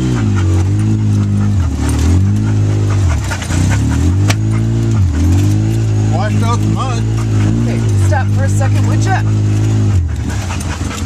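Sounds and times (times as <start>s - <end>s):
engine running under changing throttle: 0.0s - 11.0s
knocks and rattles from vehicle: 0.0s - 11.0s.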